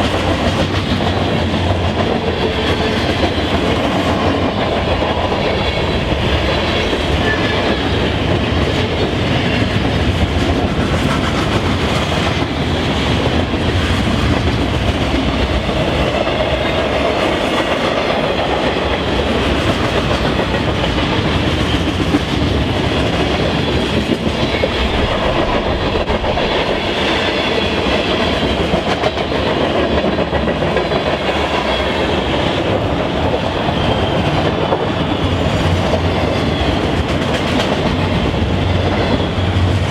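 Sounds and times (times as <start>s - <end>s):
train wheels rumbling over rails: 0.0s - 39.9s.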